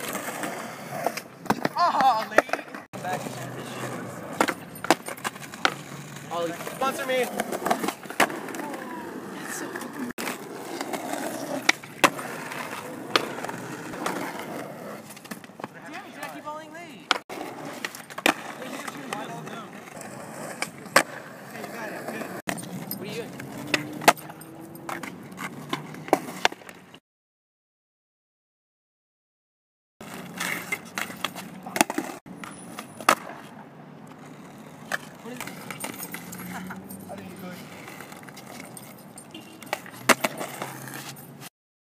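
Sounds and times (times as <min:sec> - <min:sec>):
skateboard clacking on ground: 0:00.0 - 0:26.9, 0:30.0 - 0:41.2
skateboard wheels rolling on pavement: 0:00.0 - 0:27.0, 0:30.0 - 0:41.5.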